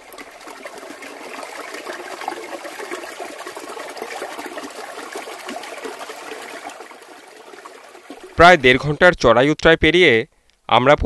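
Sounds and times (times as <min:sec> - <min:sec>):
stream babbling over rocks: 0:00.0 - 0:08.9.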